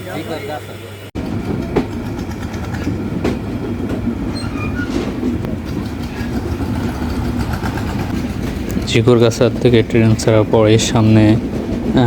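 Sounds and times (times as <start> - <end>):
train rumbling on rails: 0.9 - 12.0.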